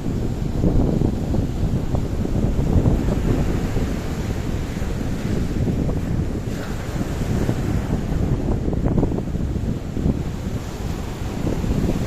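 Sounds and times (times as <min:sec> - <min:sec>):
sea waves: 0:00.0 - 0:12.0
wind buffeting microphone: 0:00.0 - 0:12.0.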